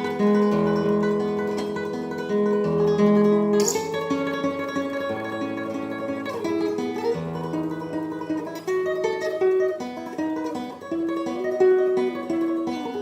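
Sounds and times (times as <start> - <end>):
classical guitar fingerstyle melody: 0.0 - 13.0.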